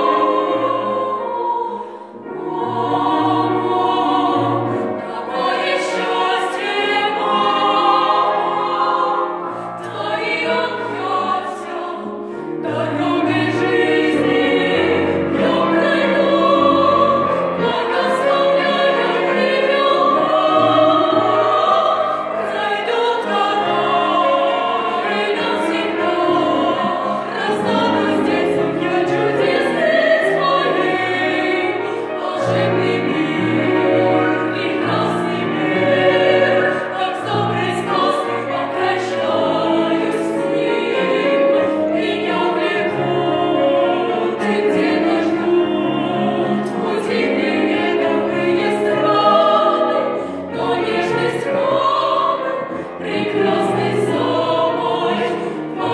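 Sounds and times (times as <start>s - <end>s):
choir singing: 0.0s - 55.9s
piano accompaniment: 0.0s - 55.9s.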